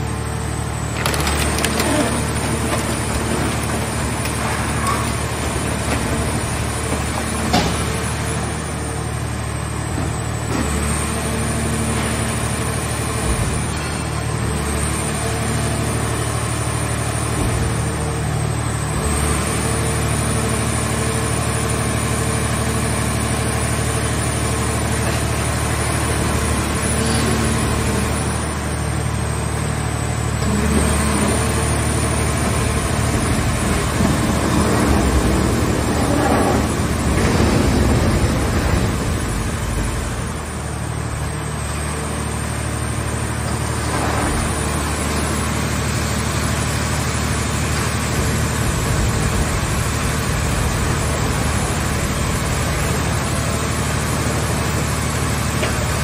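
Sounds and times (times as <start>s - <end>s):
gasoline engine running under load: 0.0s - 56.0s.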